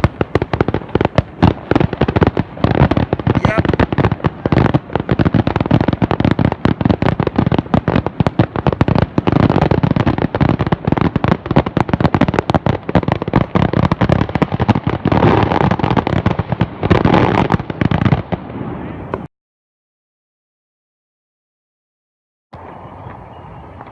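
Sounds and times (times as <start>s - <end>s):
fireworks bangs and crackle: 0.0s - 19.3s.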